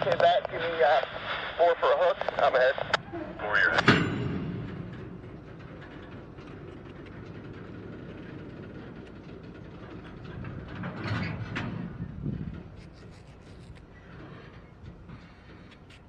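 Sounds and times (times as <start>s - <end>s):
rumble of wheels on rail: 0.0s - 16.0s.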